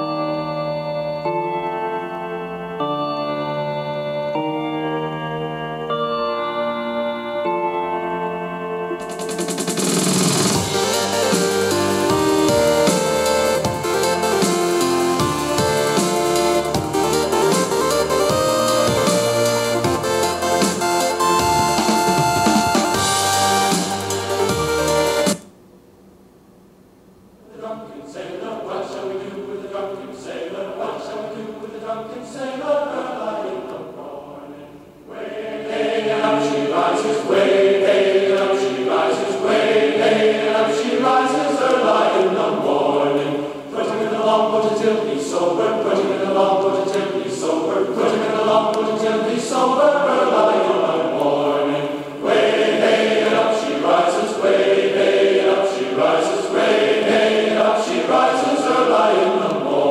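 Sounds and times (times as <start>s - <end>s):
music with choir-like voices: 0.0s - 25.4s, 27.4s - 59.9s.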